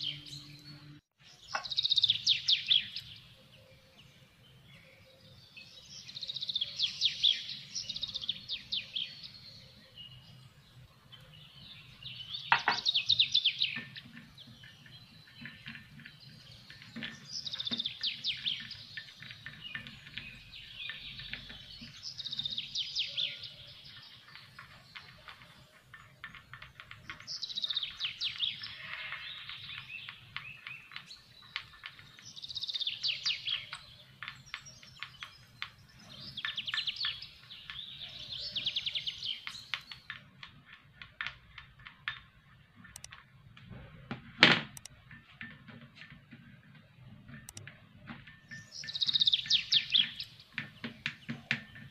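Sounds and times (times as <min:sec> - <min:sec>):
birds singing: 0:00.0 - 0:44.1, 0:44.7 - 0:51.9.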